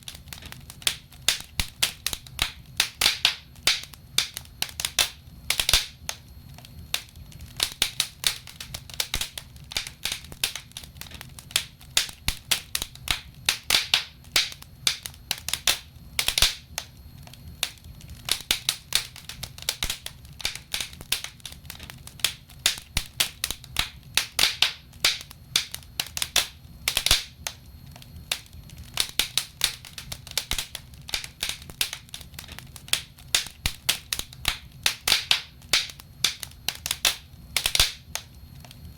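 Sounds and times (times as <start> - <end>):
logs crackling in fireplace: 0.0 - 38.9.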